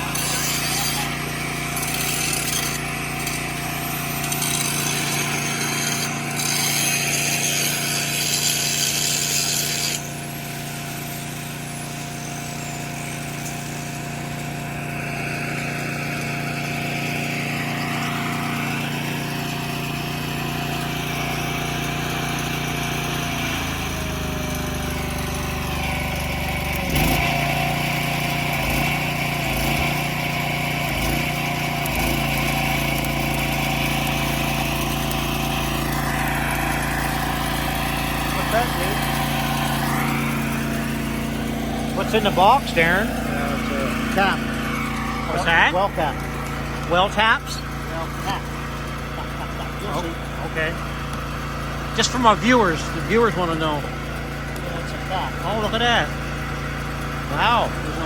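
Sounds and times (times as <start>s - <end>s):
crackling power tool: 0.0s - 58.0s
machine engine running: 0.0s - 58.0s.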